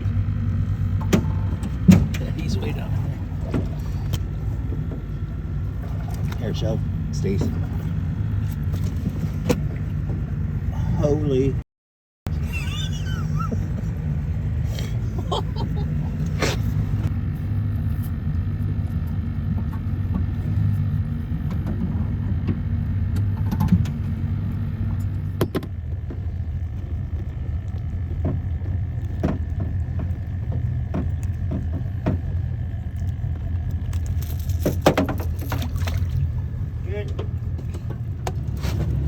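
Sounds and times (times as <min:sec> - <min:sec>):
outboard motor running: 0:00.0 - 0:11.6, 0:12.3 - 0:39.0.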